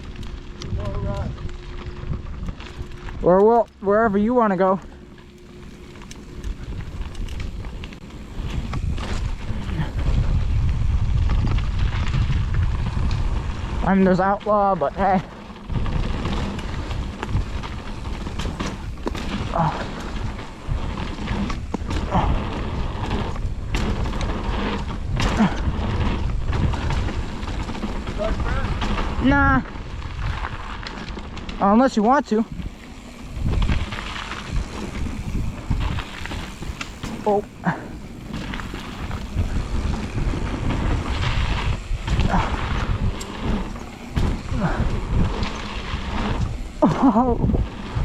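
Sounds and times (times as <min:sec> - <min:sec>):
mountain bike rumbling and rattling: 0:00.0 - 0:48.0
wind buffeting microphone: 0:00.0 - 0:48.0.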